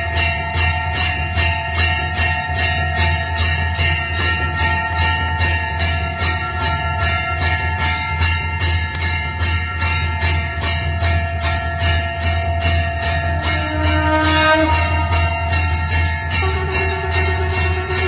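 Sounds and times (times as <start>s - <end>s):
temple bell ringing rapidly: 0.0s - 18.0s.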